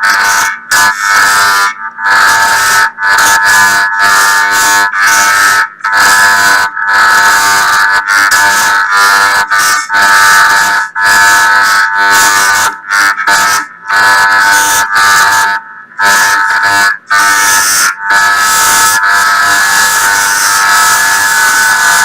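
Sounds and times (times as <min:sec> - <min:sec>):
harsh horn-like electronic tone: 0:00.0 - 0:22.0.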